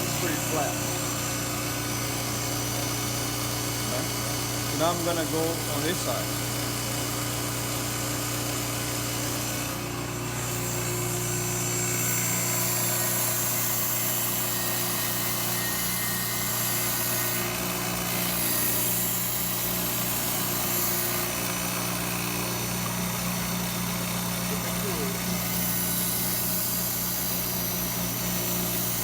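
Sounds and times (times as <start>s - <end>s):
steel hissing on grinding belt: 0.0s - 6.4s, 10.4s - 29.0s
belt grinder motor hum: 0.0s - 29.0s.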